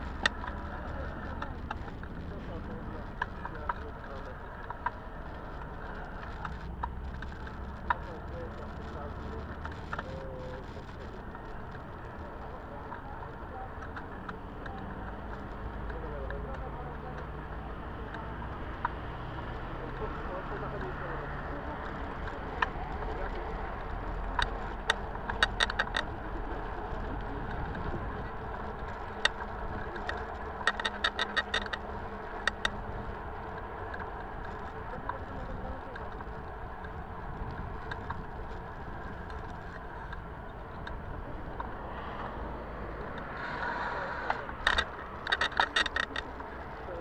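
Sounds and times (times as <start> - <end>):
bicycle tyres and wind rumble: 0.0 - 47.0
bike clicking and rattling: 0.0 - 47.0.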